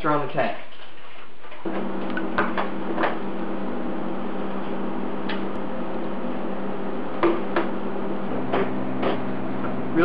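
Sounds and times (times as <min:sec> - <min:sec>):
steady low hum: 0:01.6 - 0:10.0.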